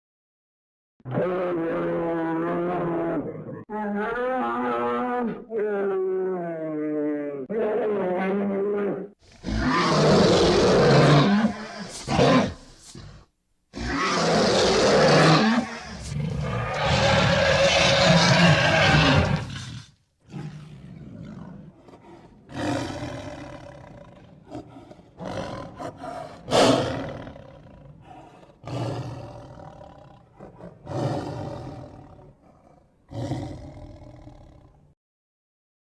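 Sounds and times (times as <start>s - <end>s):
bear roaring: 1.1s - 34.8s.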